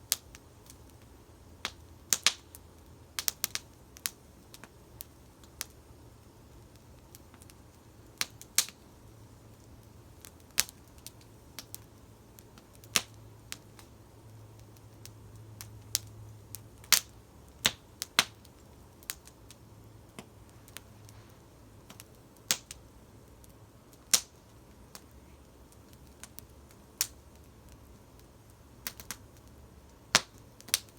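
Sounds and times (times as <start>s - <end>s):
campfire crackling: 0.0s - 30.9s
low rumble of burning fire: 0.0s - 30.9s.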